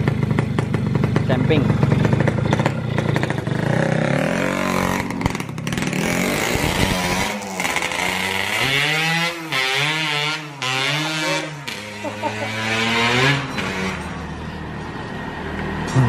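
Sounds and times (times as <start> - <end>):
two-stroke motorcycle engine revving: 0.0 - 14.5.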